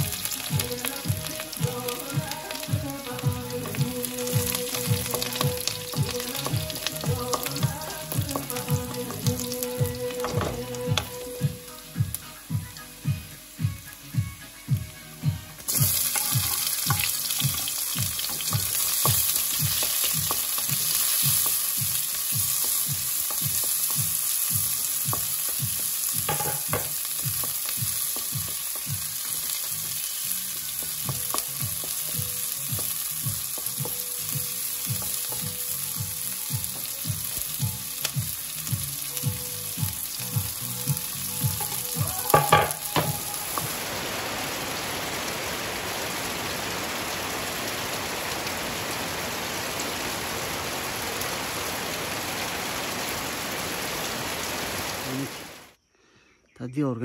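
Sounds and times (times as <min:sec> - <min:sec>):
food sizzling in a pan: 0:00.0 - 0:55.7.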